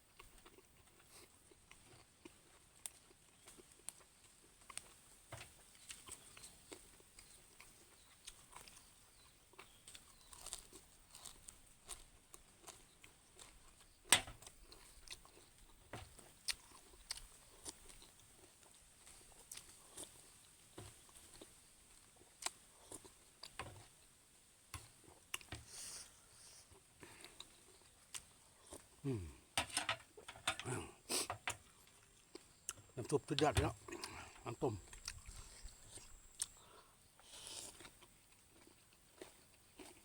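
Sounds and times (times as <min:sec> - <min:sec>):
person chewing food: 0:00.1 - 0:40.0.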